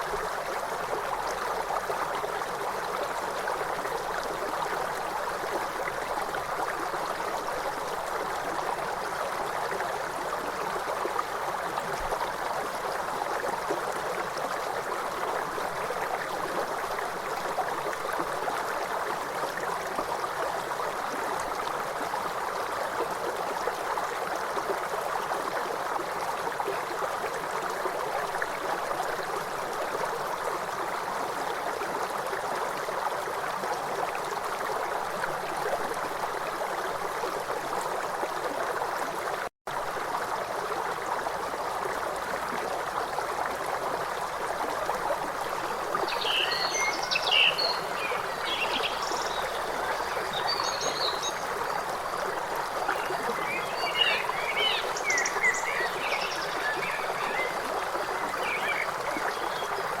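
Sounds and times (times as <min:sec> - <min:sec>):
river water running over stones: 0:00.0 - 1:00.0.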